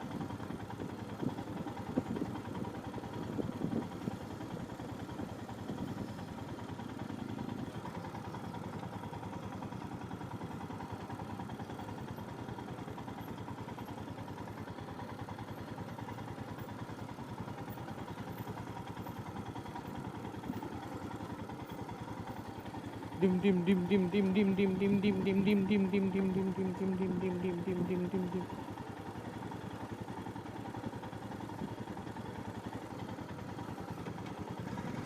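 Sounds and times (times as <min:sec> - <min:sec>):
motorcycle engine running at low revs: 0:00.0 - 0:35.0.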